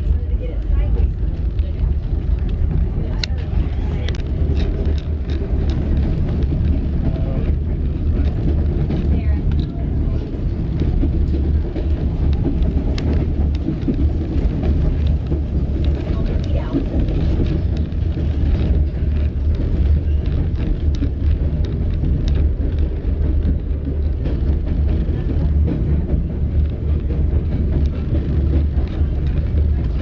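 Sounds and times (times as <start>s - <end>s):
train rumbling along track: 0.0s - 30.0s
train wheels clicking and clacking: 0.0s - 30.0s.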